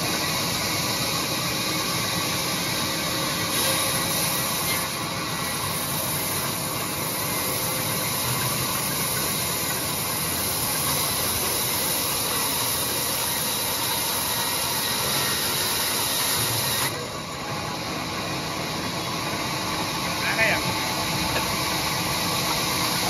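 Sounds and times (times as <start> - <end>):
band saw cutting wood: 0.0 - 23.0.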